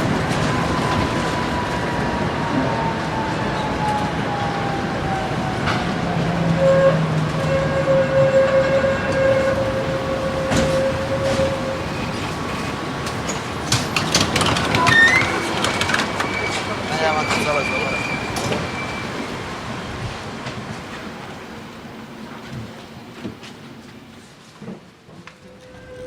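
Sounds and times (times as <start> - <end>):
tram motor whine: 0.0 - 23.6
tram wheels rumbling on rails: 0.0 - 26.0.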